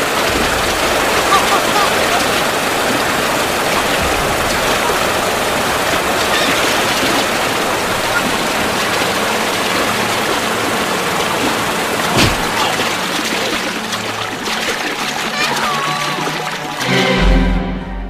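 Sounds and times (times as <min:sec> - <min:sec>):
river rapids rushing: 0:00.0 - 0:17.2.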